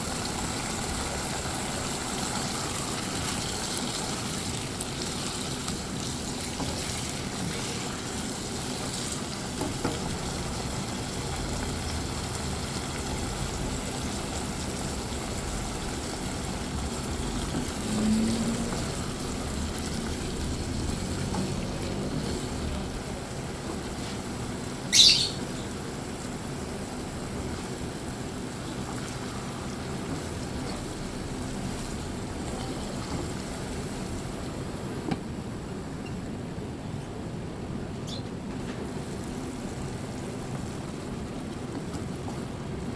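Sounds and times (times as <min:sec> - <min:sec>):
pan simmering hiss: 0:00.0 - 0:35.0.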